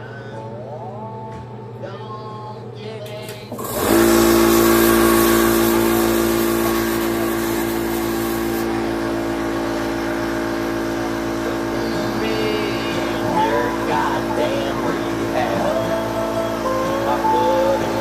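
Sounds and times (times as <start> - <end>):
air compressor hum: 0.0 - 18.0
air compressor hiss: 3.5 - 18.0.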